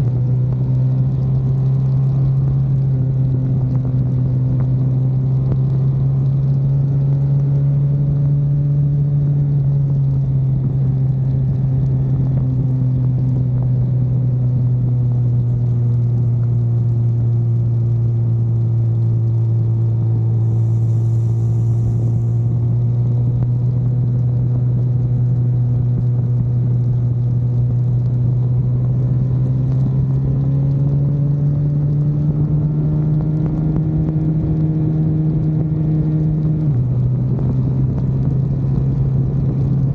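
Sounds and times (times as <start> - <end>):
car engine under load: 0.0 - 39.9
tyre and road noise: 0.0 - 39.9.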